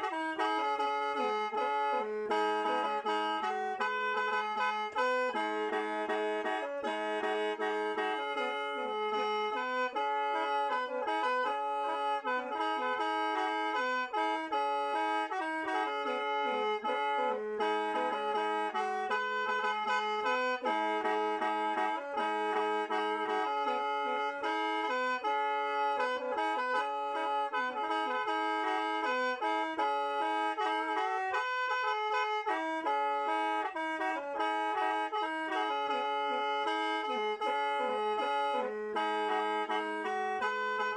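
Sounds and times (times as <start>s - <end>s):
mouth organ melody: 0.0s - 40.9s.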